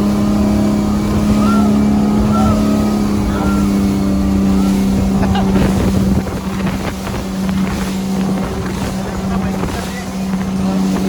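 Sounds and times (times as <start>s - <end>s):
motorboat engine running: 0.0s - 11.0s
wind on microphone: 0.0s - 11.0s.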